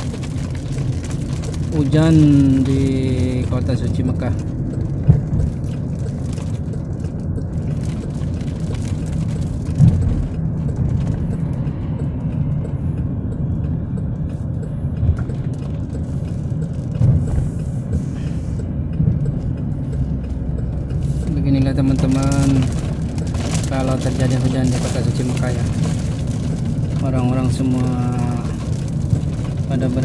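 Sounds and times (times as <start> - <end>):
car interior rumble: 0.0 - 30.0.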